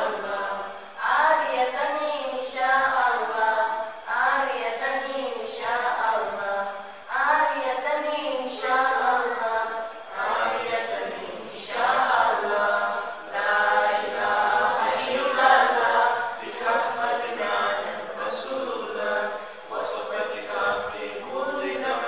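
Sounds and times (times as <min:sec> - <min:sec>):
group chanting in unison: 0:00.0 - 0:06.8, 0:08.4 - 0:22.0.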